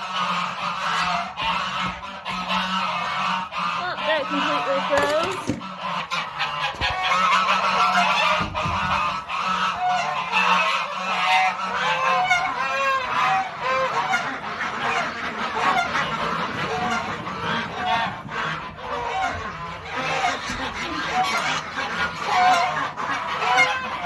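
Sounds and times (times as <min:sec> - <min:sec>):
flock of fowl calling: 0:00.0 - 0:24.0.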